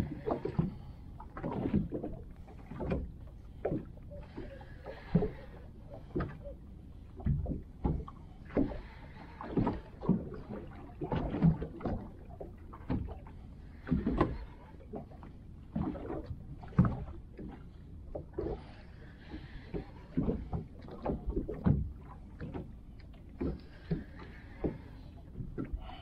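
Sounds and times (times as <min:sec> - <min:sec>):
water splashing against boat hull: 0:00.0 - 0:26.0.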